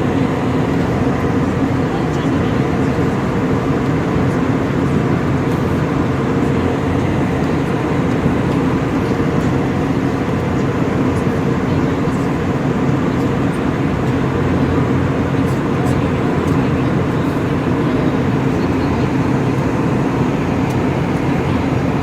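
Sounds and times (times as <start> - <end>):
airplane engines rumbling: 0.0 - 22.0.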